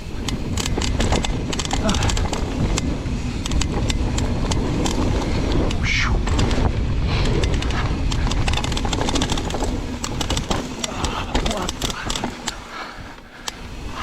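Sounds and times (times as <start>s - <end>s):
bike rattling and knocking: 0.0s - 14.0s
wind buffeting microphone: 0.0s - 14.0s.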